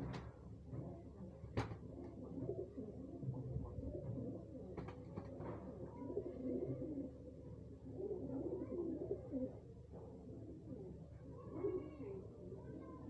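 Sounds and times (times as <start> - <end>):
pigeons cooing: 1.8 - 12.3.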